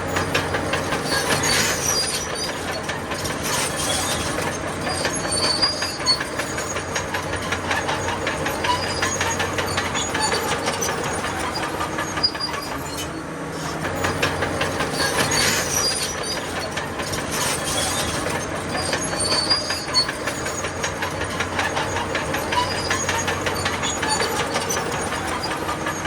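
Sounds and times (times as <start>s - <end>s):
bulldozer diesel engine: 0.0s - 26.0s
crawler tracks clanking: 0.0s - 26.0s.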